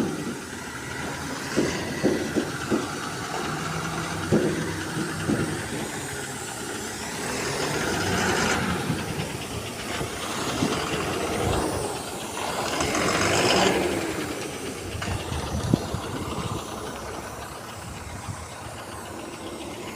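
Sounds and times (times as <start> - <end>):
heavy diesel machinery running: 0.0 - 19.9
hissing noise: 0.0 - 19.9.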